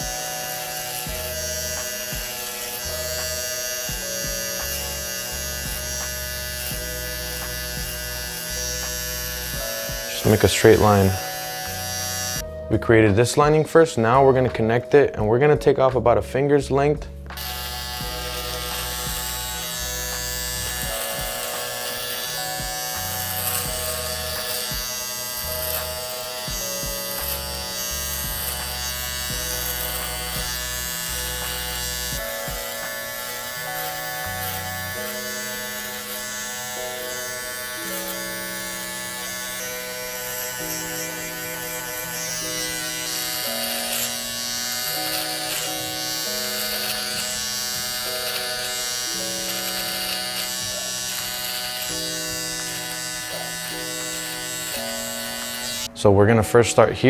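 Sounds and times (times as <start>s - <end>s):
hair trimmer buzzing: 0.0s - 12.6s, 17.3s - 56.2s
background music: 0.0s - 57.0s.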